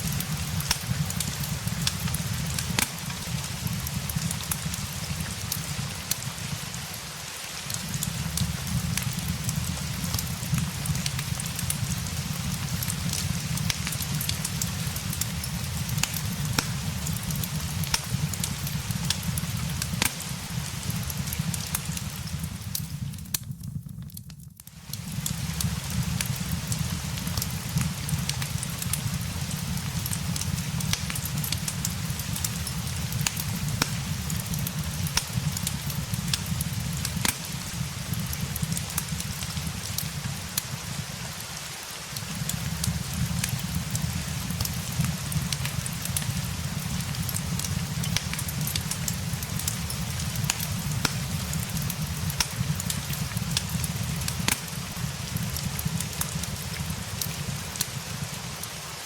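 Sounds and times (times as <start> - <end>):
fireplace crackling: 0.0 - 59.0
steady rain hiss: 0.0 - 59.0.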